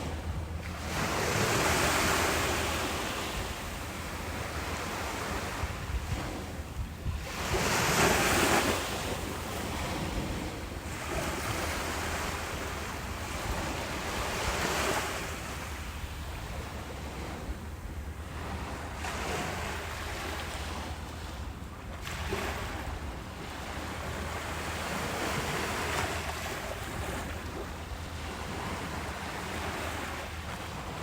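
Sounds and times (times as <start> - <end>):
low rumble of wind on microphone: 0.0 - 31.0
ocean waves breaking on beach: 0.0 - 31.0.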